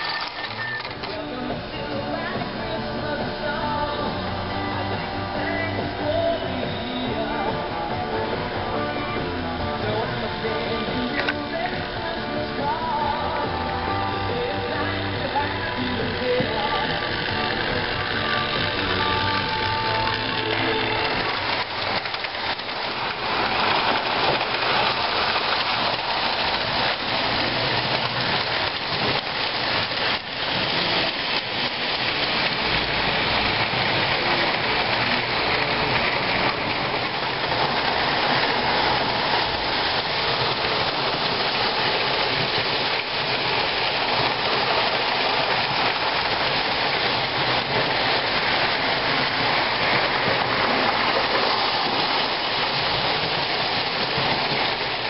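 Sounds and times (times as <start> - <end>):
toy train wheels rattling on rails: 0.0 - 2.4, 9.0 - 55.0.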